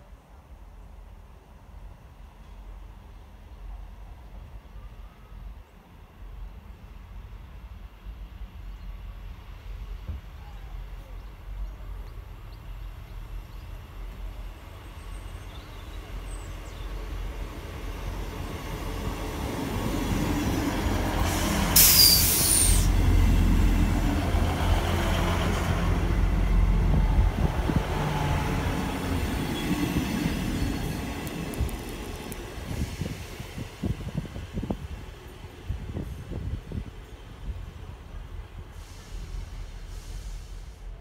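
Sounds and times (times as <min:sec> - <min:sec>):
rush of passing train: 0:00.0 - 0:41.0
diesel train engine drone: 0:00.5 - 0:41.0
train wheels on rail: 0:05.2 - 0:41.0.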